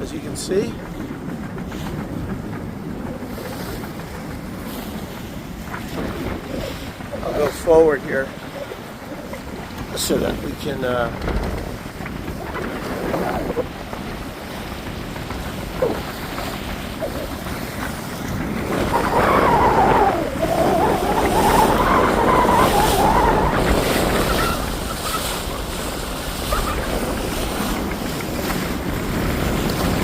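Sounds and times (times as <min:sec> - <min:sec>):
wind buffeting microphone: 0:00.0 - 0:30.0
rushing water: 0:03.1 - 0:30.0.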